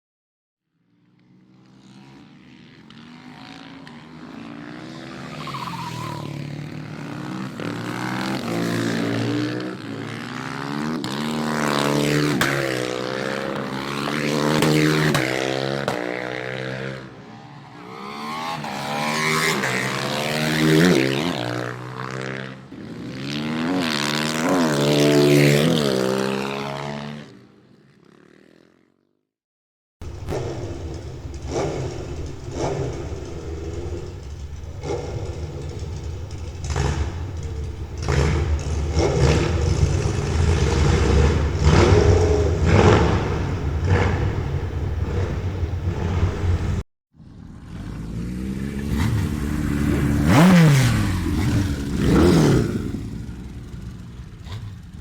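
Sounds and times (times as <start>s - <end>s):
motorcycle engine revving: 0.9s - 27.5s, 30.0s - 55.0s.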